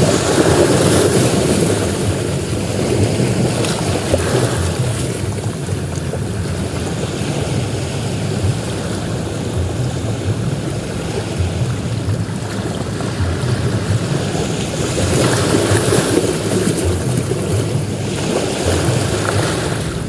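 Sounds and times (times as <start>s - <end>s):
waves breaking on a beach: 0.0s - 20.0s
wind rumble on microphone: 0.0s - 20.0s.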